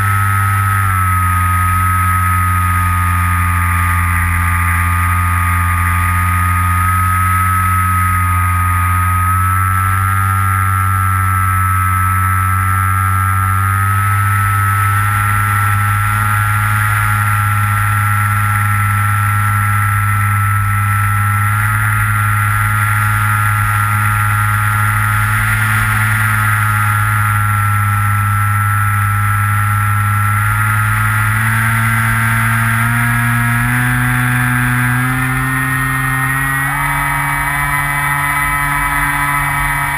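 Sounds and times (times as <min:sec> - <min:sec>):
model plane motor humming: 0:00.0 - 0:39.9.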